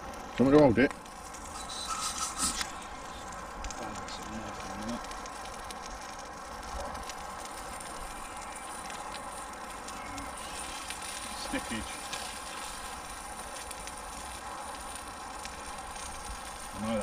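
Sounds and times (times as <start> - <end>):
burgers sizzling in a frying pan: 0.0 - 17.0
campfire crackles: 0.0 - 17.0.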